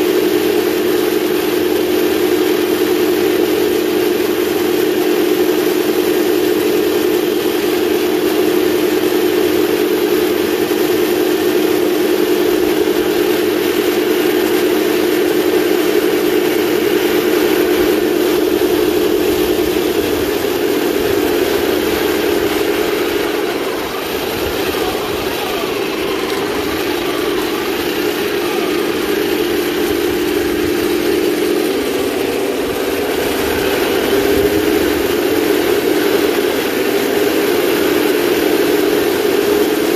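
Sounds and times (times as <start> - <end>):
toy tank motors humming: 0.0 - 39.9.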